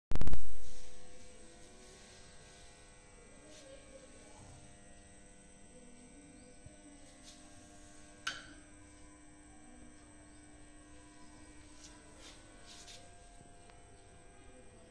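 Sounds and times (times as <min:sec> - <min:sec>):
faint steady hum: 0:00.2 - 0:14.9.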